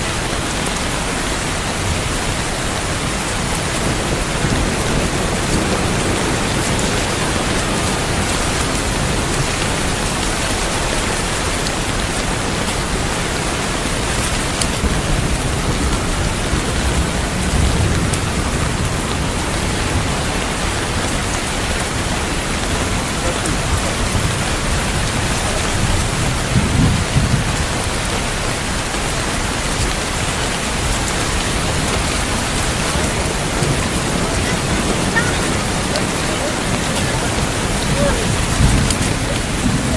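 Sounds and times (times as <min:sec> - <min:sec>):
heavy rain: 0:00.0 - 0:39.9
low thunder rumbling: 0:00.0 - 0:39.9.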